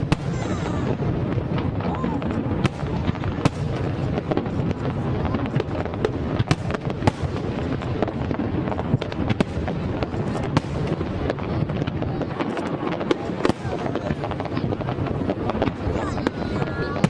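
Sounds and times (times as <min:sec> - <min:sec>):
fireworks booming: 0:00.0 - 0:17.0
fireworks cracking: 0:00.0 - 0:17.0.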